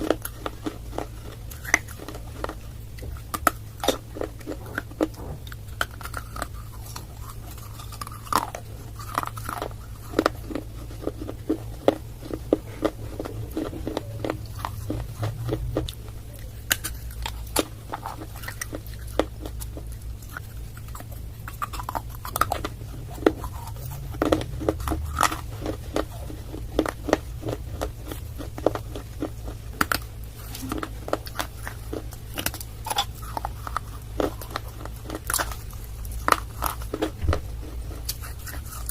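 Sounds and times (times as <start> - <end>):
person chewing clay crunchily: 0.0 - 38.9
low rumble: 2.2 - 34.6.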